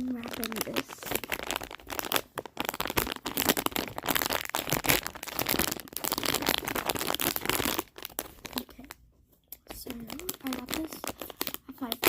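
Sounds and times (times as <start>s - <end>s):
packaging wrapper crinkling: 0.0s - 9.0s, 9.6s - 12.0s.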